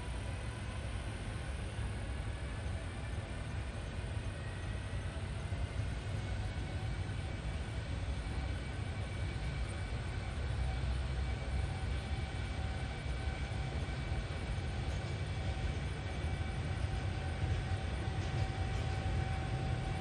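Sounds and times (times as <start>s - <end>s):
electric locomotive rumbling: 0.0s - 20.0s
faint steady tones: 0.0s - 20.0s.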